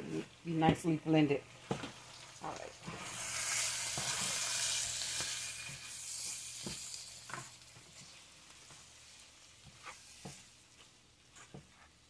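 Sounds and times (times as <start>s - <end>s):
rice sizzling in a pot: 1.3s - 12.0s.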